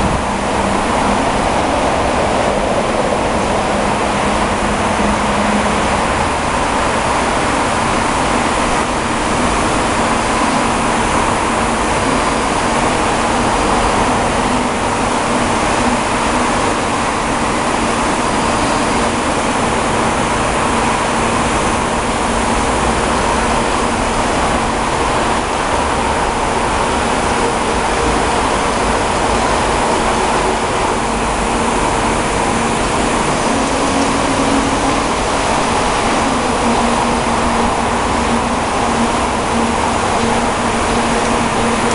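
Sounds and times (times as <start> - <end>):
milling machine hum and whir: 0.0 - 41.9.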